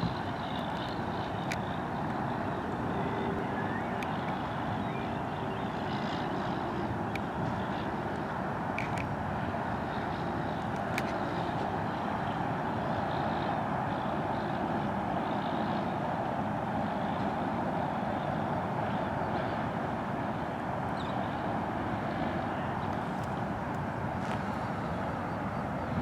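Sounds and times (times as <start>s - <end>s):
outdoor background roar: 0.0s - 26.0s.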